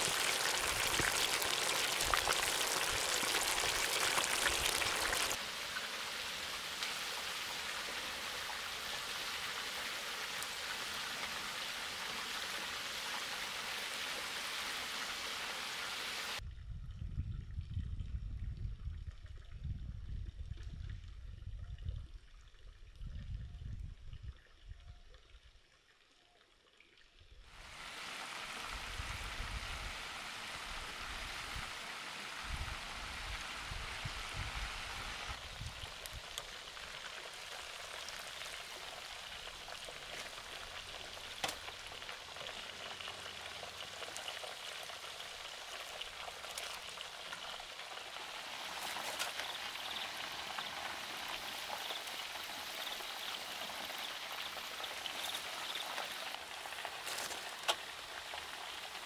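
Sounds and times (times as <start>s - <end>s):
chicken deep-frying in oil: 0.0s - 59.0s.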